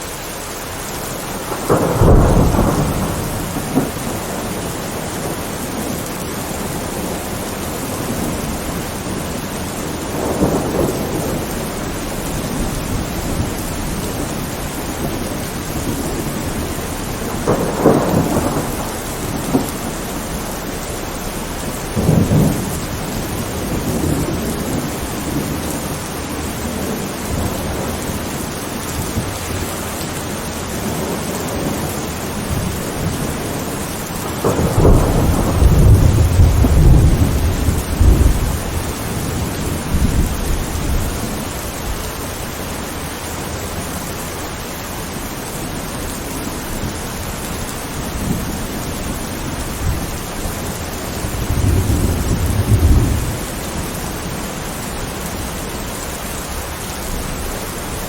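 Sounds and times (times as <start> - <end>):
steady rain: 0.0 - 58.0
thunder rumbling: 0.0 - 58.0.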